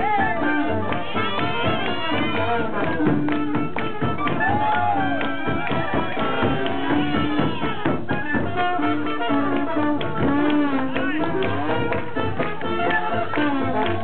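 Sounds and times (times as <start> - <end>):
jazz band playing swing: 0.0 - 14.0
sliding trombone: 0.0 - 14.0
trumpet: 0.0 - 14.0.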